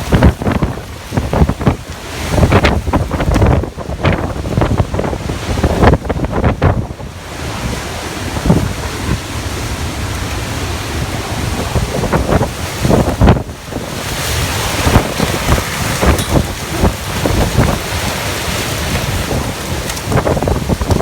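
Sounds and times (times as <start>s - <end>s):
strong wind gusting: 0.0s - 21.0s
wind buffeting microphone: 0.0s - 21.0s.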